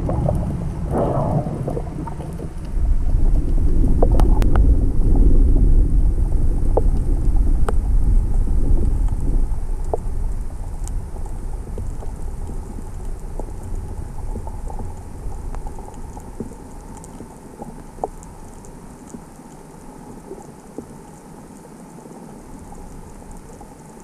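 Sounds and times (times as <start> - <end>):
muffled underwater water rumble: 0.0 - 24.0.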